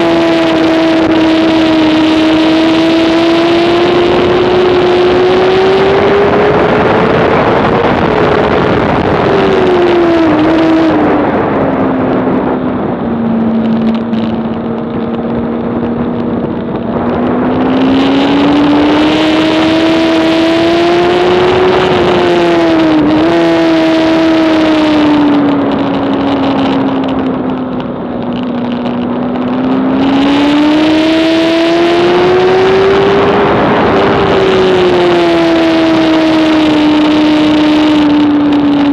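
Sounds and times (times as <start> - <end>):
motorcycle engine revving high: 0.0 - 38.9.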